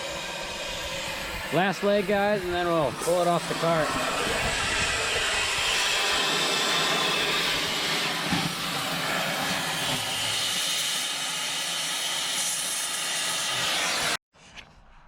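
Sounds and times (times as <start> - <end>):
cutting torch hissing: 0.0 - 14.2.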